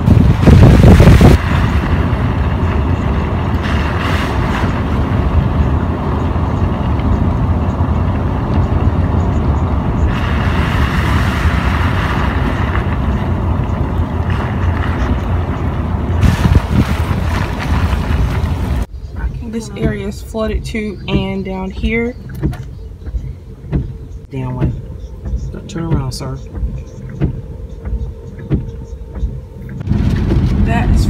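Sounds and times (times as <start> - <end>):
car road and engine noise: 0.0 - 31.0
loud low rumble: 0.0 - 31.0.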